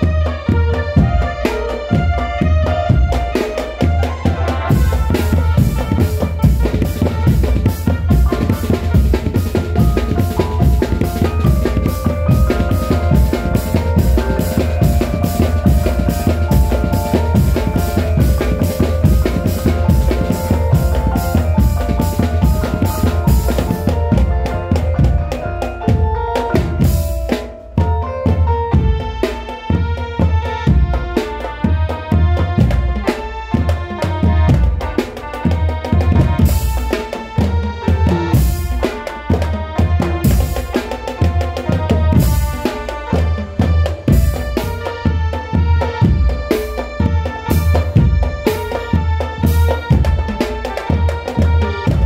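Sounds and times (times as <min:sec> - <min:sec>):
heavy low drum beat: 0:00.0 - 0:52.0
held melodic line: 0:00.0 - 0:52.0.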